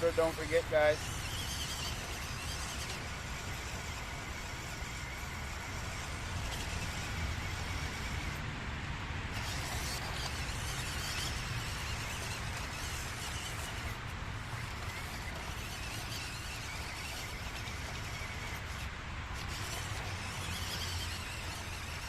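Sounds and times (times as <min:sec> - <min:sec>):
low outdoor rumble: 0:00.0 - 0:22.0
toy truck motor and gearbox whirring: 0:00.0 - 0:22.0.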